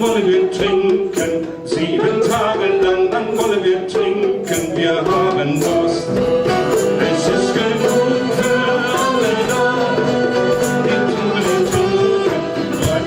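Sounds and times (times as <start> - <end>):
folk song with melody instruments: 0.0 - 13.0.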